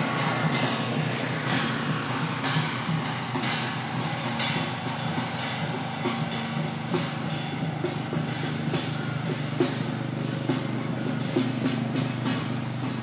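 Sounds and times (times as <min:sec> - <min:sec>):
cymbal crashes: 0:00.0 - 0:13.0
drums beating: 0:00.0 - 0:13.0.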